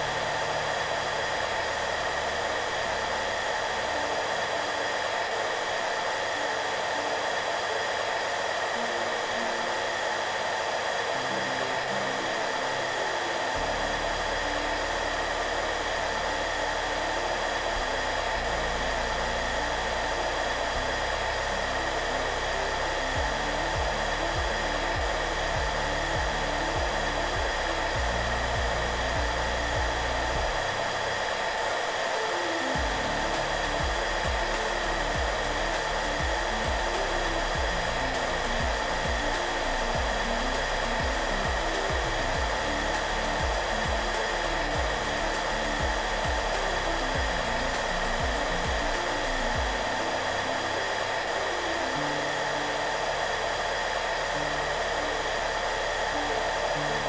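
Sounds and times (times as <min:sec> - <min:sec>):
hair dryer running: 0:00.0 - 0:57.0
soft music: 0:00.0 - 0:57.0.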